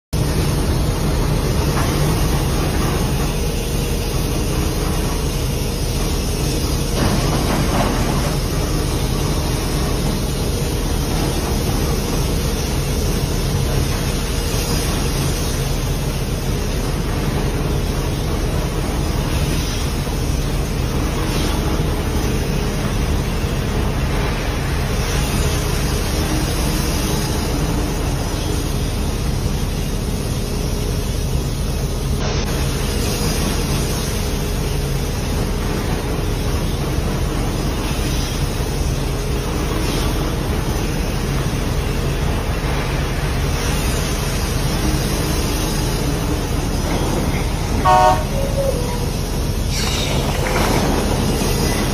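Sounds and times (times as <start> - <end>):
heavy machinery humming and rumbling: 0.2 - 51.9.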